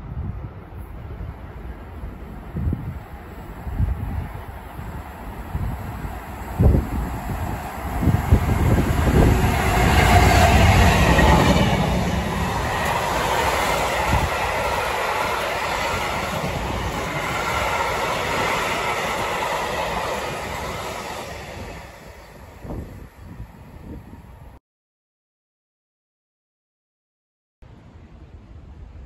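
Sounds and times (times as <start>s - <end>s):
diesel locomotive engine: 0.5s - 24.5s.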